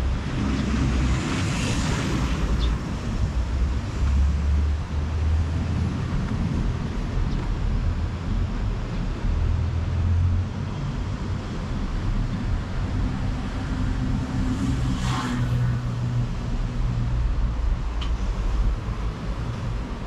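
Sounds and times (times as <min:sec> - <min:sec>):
passing cars rumbling: 0:00.0 - 0:20.0.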